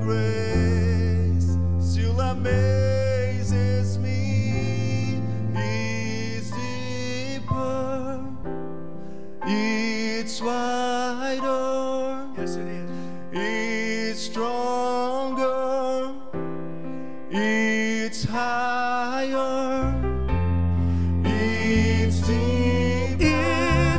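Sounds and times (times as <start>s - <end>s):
vocalists singing slow song: 0.0s - 20.2s, 20.8s - 23.9s
keyboard accompaniment: 0.0s - 23.9s.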